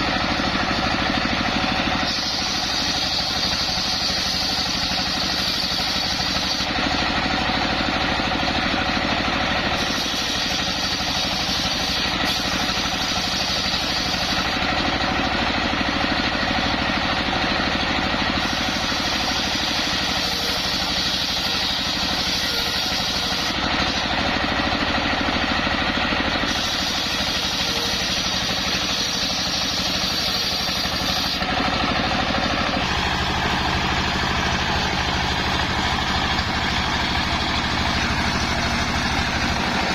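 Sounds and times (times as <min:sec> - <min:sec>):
engine driving circular saw: 0:00.0 - 0:39.9.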